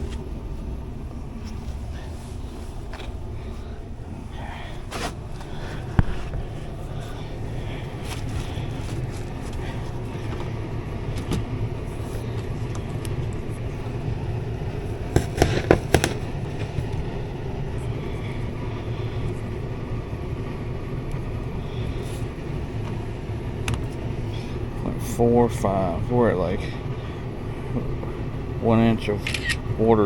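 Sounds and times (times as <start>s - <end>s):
air conditioner blower rumble: 0.0s - 30.0s.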